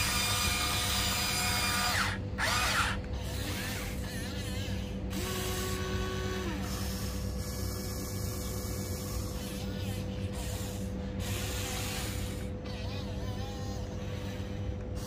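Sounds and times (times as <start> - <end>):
toy excavator motors whirring: 0.0 - 15.0.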